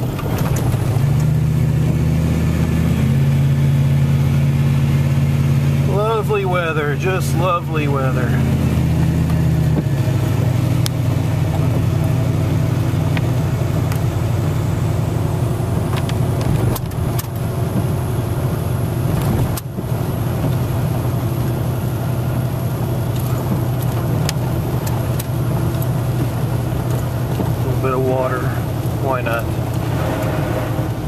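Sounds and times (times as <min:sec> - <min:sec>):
vehicle road hum on wet road: 0:00.0 - 0:31.0.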